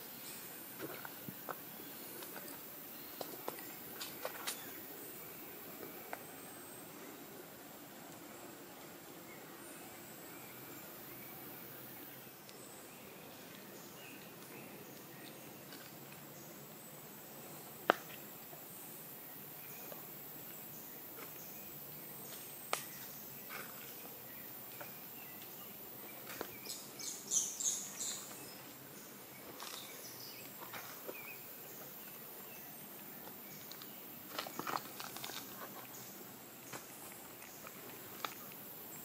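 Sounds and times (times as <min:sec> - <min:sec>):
insects hissing: 0:00.0 - 0:39.0.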